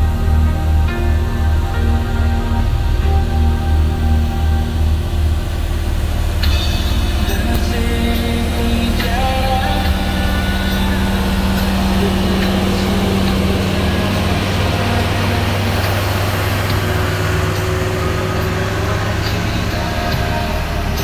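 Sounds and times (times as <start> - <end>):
diesel truck engine running: 0.0 - 21.0
road and tyre noise: 0.0 - 21.0.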